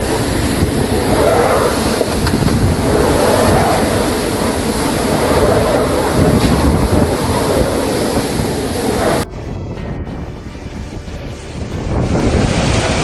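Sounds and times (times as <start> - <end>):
rough water crashing: 0.0 - 13.0
wind rumbling on microphone: 0.0 - 13.0.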